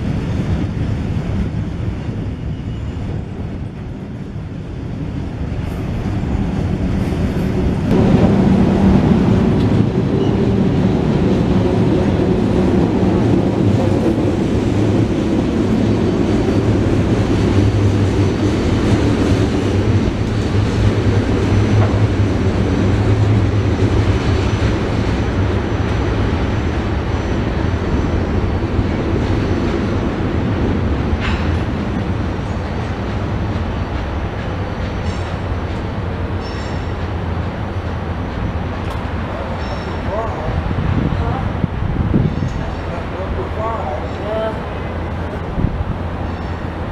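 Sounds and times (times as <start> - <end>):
steel wheels rumbling on rail: 0.0 - 46.9.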